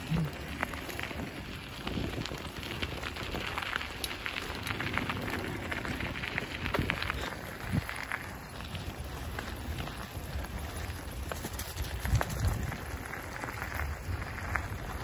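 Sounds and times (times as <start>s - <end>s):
wheels clicking and rattling: 0.0s - 15.0s.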